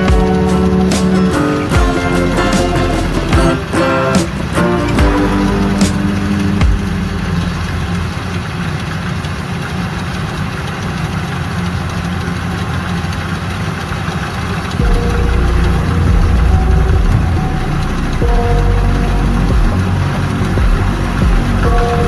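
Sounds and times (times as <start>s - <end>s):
harvesting machine engine running: 0.0s - 22.0s.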